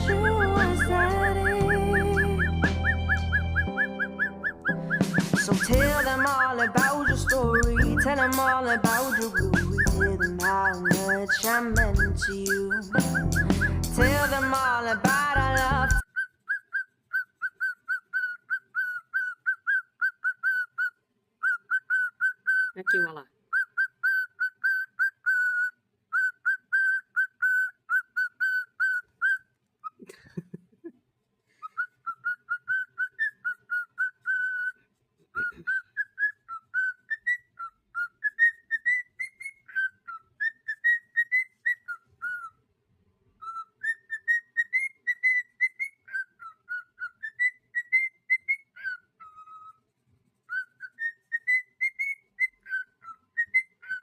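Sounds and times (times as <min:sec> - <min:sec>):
cockatiel whistling: 0:00.0 - 0:30.0, 0:31.6 - 0:34.8, 0:35.4 - 0:42.6, 0:43.4 - 0:49.8, 0:50.4 - 0:54.0.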